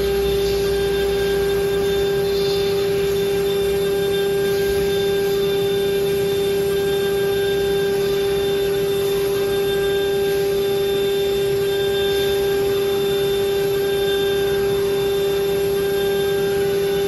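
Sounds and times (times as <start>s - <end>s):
cnc router spindle whine: 0.0s - 17.0s.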